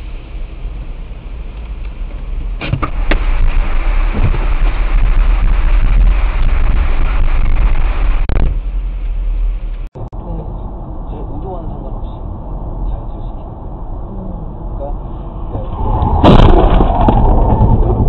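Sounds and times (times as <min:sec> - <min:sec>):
tunnel traffic rumble: 0:00.0 - 0:18.0.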